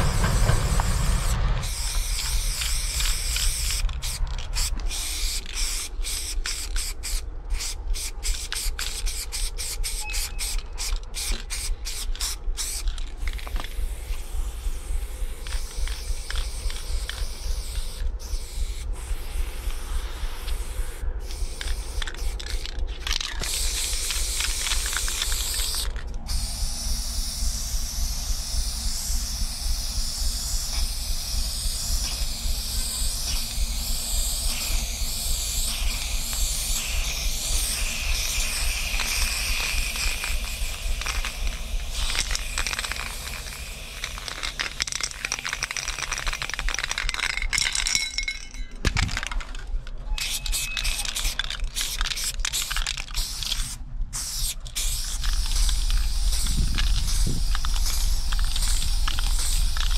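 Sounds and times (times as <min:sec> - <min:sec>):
spray can clicks and rattles: 0:00.0 - 0:14.3, 0:15.0 - 0:20.6, 0:21.2 - 0:59.9
spray paint can hissing: 0:00.0 - 0:59.9.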